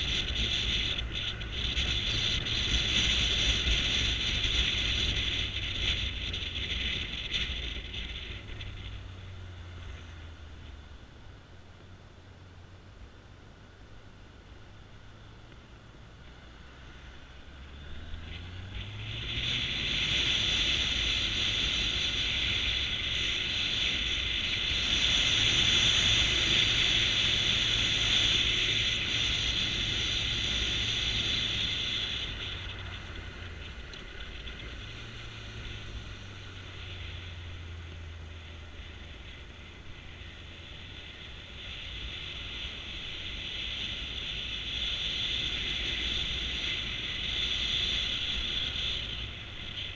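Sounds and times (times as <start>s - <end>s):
motorcycle engine accelerating: 0.0s - 49.9s
wind and riding noise hiss: 0.0s - 49.9s.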